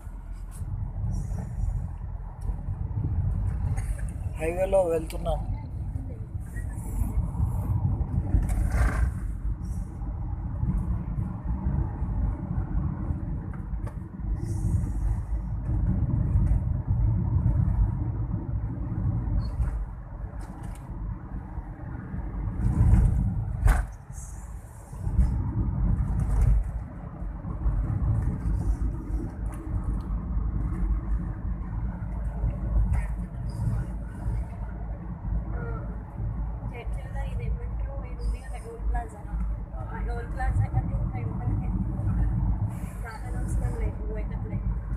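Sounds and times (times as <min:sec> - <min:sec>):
vehicle road noise rumble: 0:00.0 - 0:44.9.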